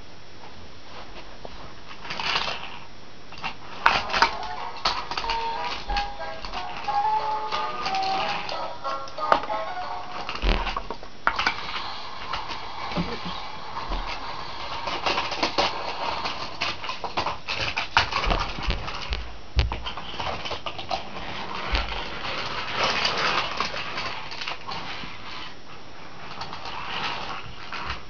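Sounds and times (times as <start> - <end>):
toy train rattling on plastic track: 1.9 - 19.1, 19.9 - 28.0.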